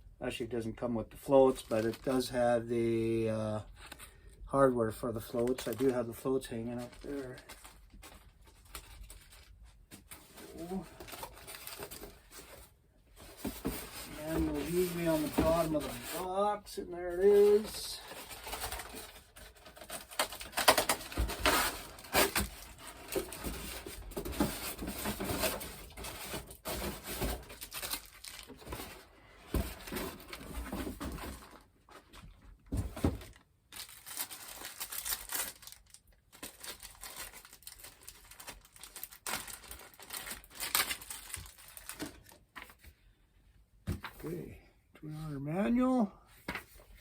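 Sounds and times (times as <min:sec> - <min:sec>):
plastic and cardboard packaging rustling: 0:01.2 - 0:04.4, 0:05.0 - 0:43.0.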